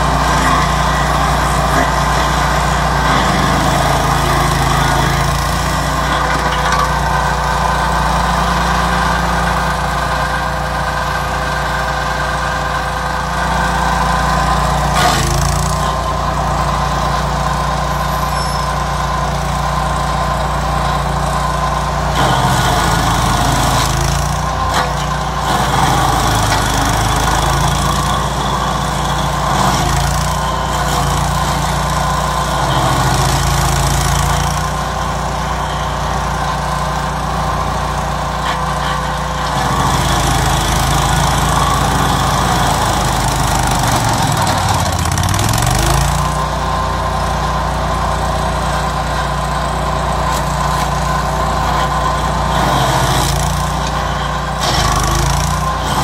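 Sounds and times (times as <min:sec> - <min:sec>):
cutter wheel grinding stump: 0:00.0 - 0:56.0
stump grinder engine running: 0:00.0 - 0:56.0.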